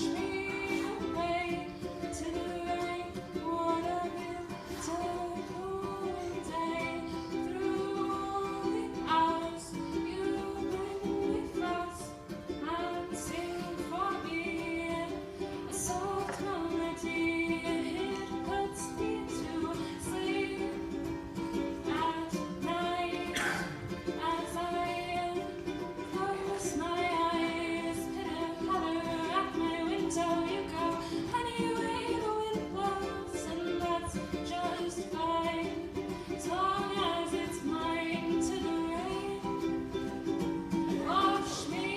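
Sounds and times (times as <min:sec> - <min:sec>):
plucked string instrument: 0:00.0 - 0:41.9
woman singing: 0:00.0 - 0:41.9.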